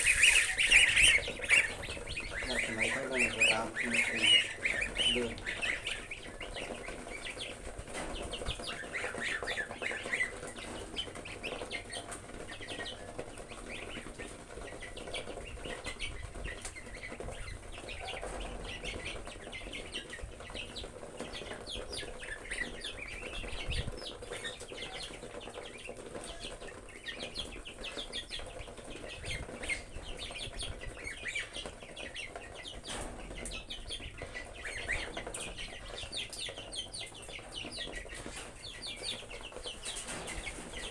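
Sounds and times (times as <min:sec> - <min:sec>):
goslings peeping: 0:00.0 - 0:40.9.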